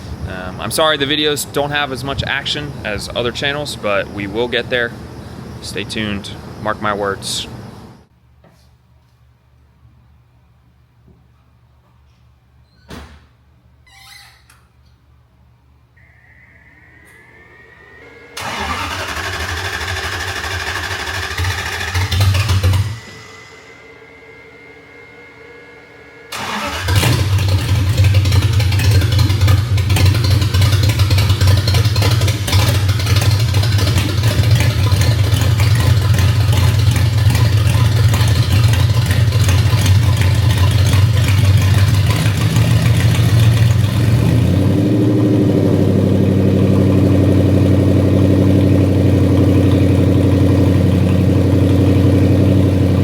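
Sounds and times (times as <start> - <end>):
car engine starting and idling: 0.0 - 8.1, 17.1 - 53.0.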